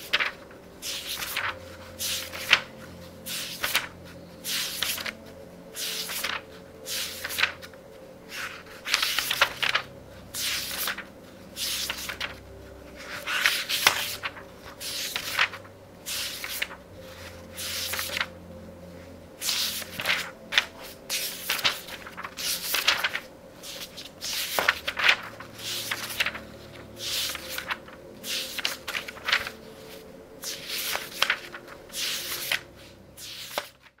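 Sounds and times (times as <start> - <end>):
book pages turning: 0.0 - 34.0.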